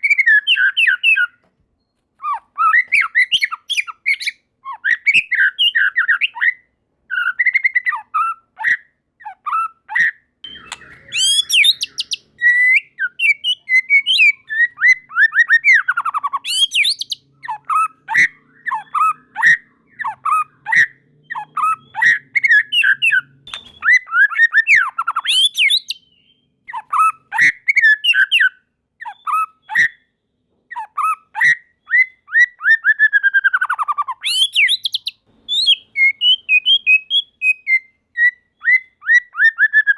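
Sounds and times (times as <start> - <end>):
songbird singing whistles and trills: 0.0 - 39.9.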